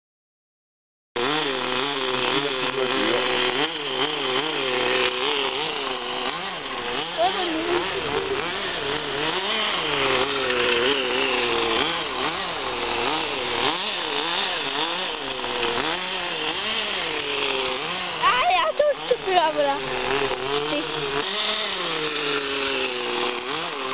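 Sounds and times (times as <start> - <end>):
model car engine revving: 1.2 - 23.9.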